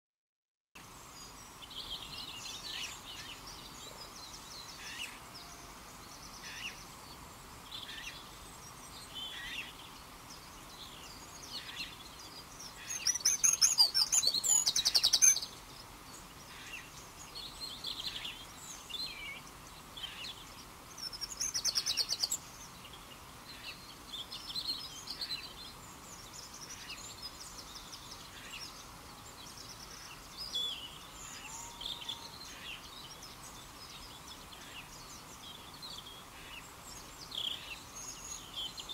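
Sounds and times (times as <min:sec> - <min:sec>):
faint steady hiss: 0:00.8 - 0:38.9
songbirds chirping and singing: 0:01.1 - 0:38.9.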